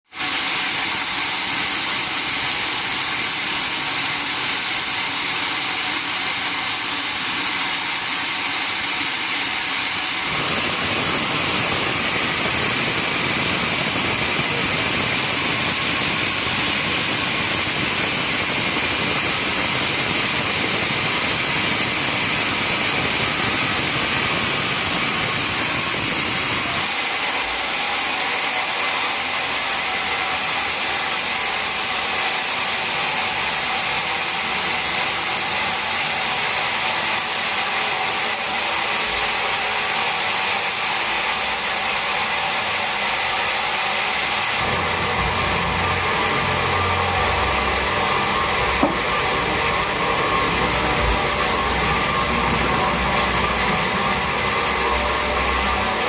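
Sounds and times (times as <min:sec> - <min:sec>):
sawmill machinery running: 0:00.1 - 0:56.0
high steady whine: 0:00.2 - 0:56.0.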